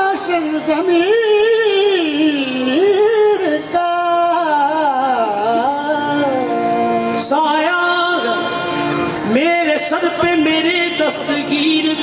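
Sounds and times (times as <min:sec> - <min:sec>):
harmonium holding notes: 0:00.0 - 0:12.0
man singing melismatic melody: 0:00.0 - 0:12.0.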